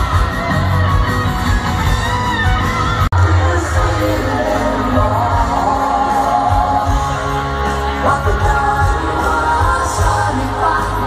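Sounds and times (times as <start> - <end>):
distant live rock band: 0.0 - 11.0.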